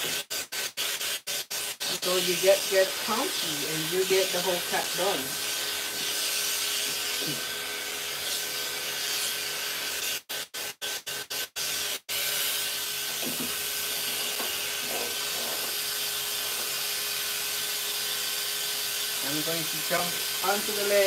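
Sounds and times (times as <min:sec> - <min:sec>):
grooming machine air and motor hum: 0:01.6 - 0:10.1, 0:11.7 - 0:21.0.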